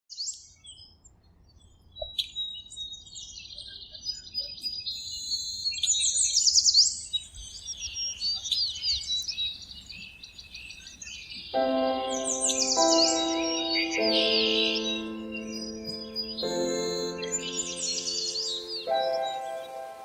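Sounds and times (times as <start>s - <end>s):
songbirds chirping and trilling: 0.2s - 20.0s.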